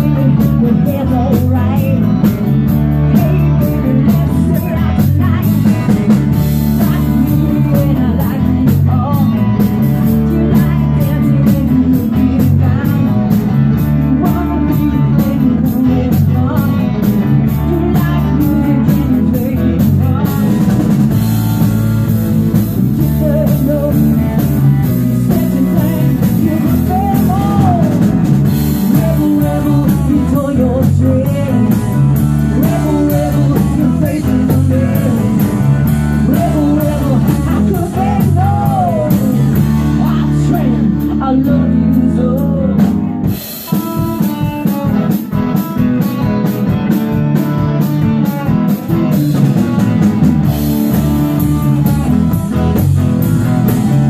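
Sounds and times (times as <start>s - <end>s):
person singing: 0.0s - 22.1s, 22.8s - 45.8s, 46.7s - 54.0s
rock band playing: 0.0s - 54.0s.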